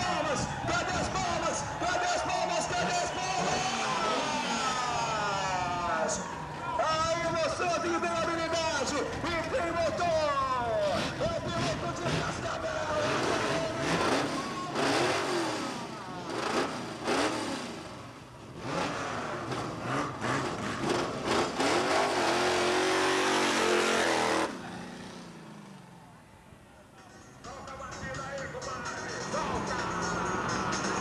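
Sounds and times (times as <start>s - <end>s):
racing car engines revving: 0.0s - 26.2s, 29.3s - 31.0s.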